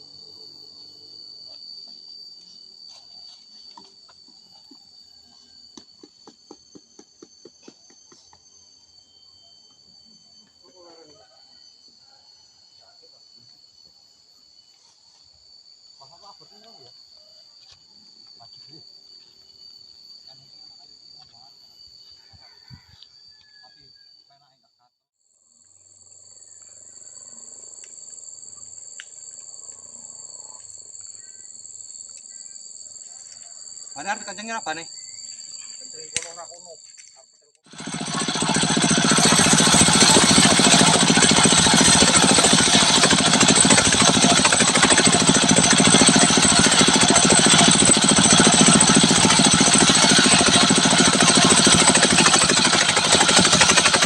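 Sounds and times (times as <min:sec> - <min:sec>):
insects chirring: 0:00.0 - 0:24.6, 0:25.4 - 0:54.0.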